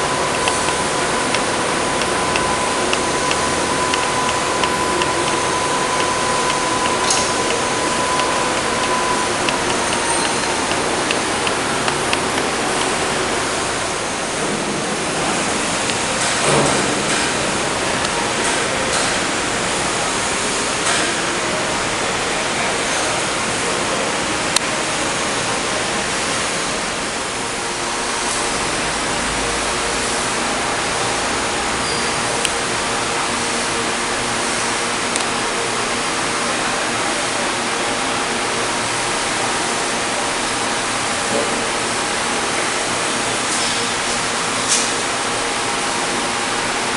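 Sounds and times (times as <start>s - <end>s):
thread rolling machine running: 0.0s - 46.9s.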